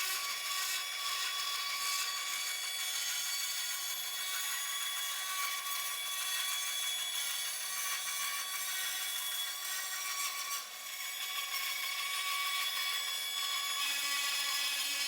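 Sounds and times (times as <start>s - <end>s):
power tool cutting wood: 0.0s - 15.0s.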